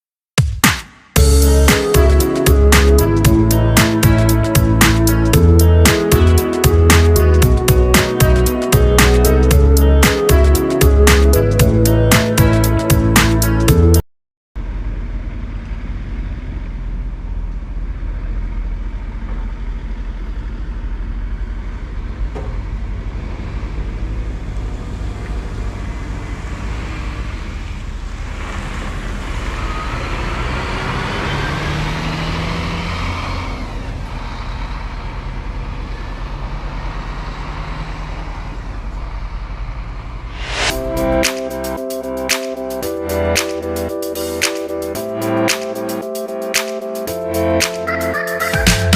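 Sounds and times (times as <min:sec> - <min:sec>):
bus engine running: 0:01.2 - 0:14.0, 0:14.6 - 0:48.9
high-pitched vehicle noise: 0:01.2 - 0:14.0, 0:14.6 - 0:48.9.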